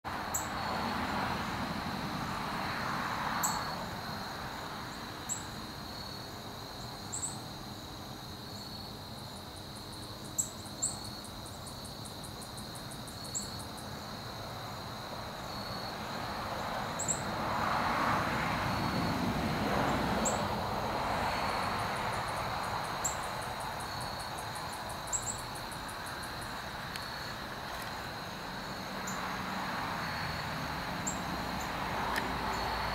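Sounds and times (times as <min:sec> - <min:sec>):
insects chirring: 0:00.1 - 0:32.9.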